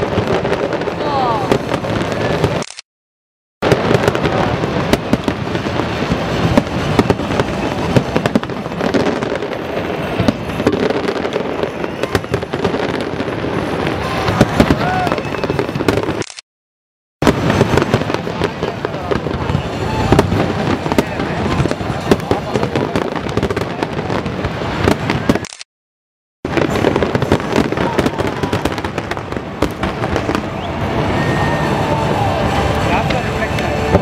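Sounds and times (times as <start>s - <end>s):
fireworks crackling and banging: 0.0s - 2.8s, 3.6s - 16.4s, 17.2s - 25.7s, 26.4s - 34.0s.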